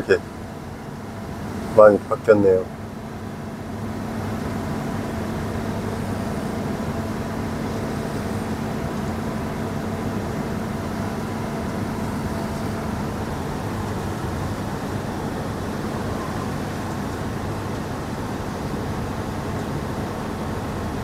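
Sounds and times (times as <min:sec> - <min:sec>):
vehicle idling from inside cab: 0:00.0 - 0:21.0.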